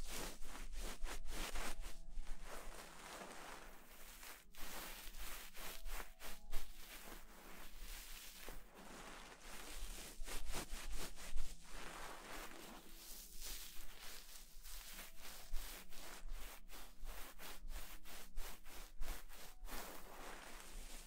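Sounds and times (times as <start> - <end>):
fingers rubbing fur: 0.0 - 21.0.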